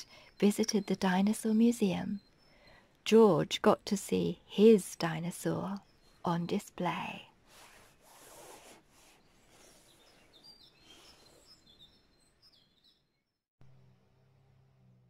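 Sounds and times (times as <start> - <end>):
small birds chirping: 0.0 - 13.4.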